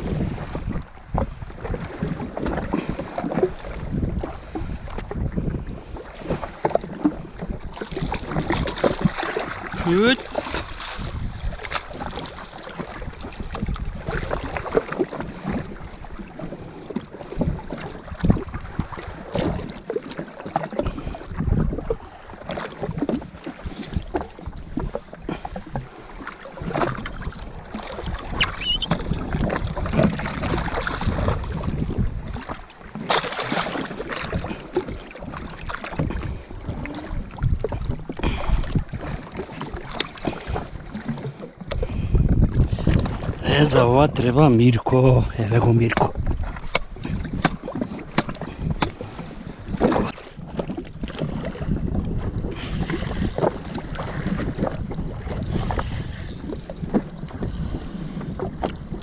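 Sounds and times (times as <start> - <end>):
wind buffeting microphone: 0.0 - 19.8, 20.8 - 59.0
water slapping against hull: 0.0 - 59.0.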